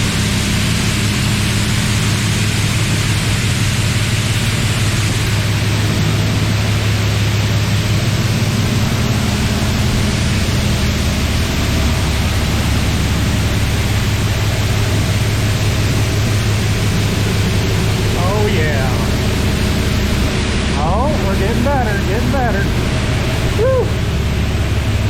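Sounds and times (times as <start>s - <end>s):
low hum: 0.0s - 25.0s
pressure washer spraying water: 0.0s - 25.0s.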